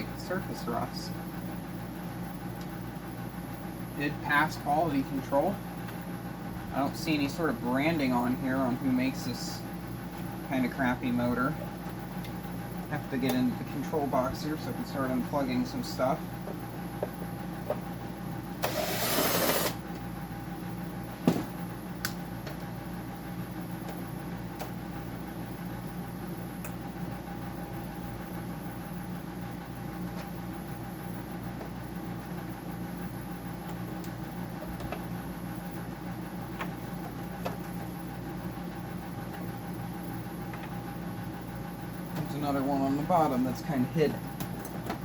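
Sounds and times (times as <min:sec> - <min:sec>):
dehumidifier humming: 0:00.0 - 0:45.0.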